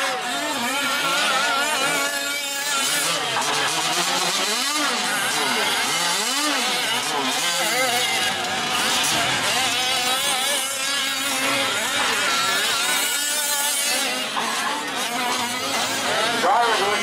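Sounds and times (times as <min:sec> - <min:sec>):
small two-stroke engines revving: 0:00.0 - 0:17.0.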